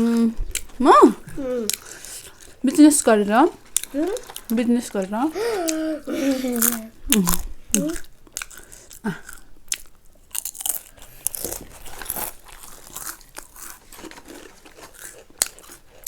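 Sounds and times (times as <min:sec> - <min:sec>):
crunching and chewing snacks: 0:00.0 - 0:16.0.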